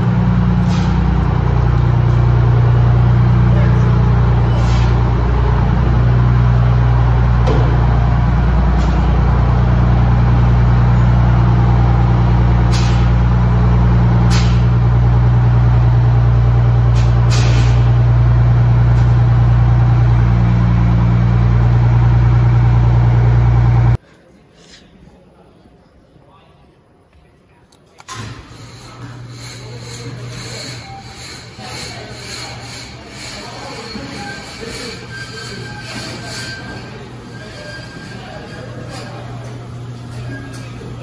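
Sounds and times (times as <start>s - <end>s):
fire engine idling: 0.0s - 24.0s, 28.0s - 41.0s.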